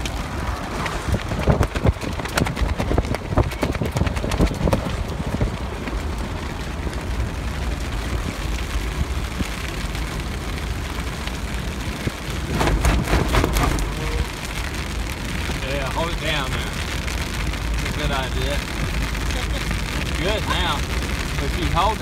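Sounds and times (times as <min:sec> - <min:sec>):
low road rumble: 0:00.0 - 0:22.0
tarp crackling rustles: 0:00.0 - 0:22.0
wind and rain on tarp: 0:00.0 - 0:22.0.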